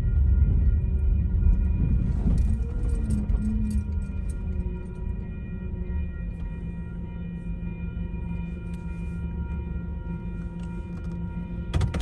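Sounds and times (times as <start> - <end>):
railroad crossing bell ringing: 0.0 - 12.0
train rumble: 0.0 - 12.0.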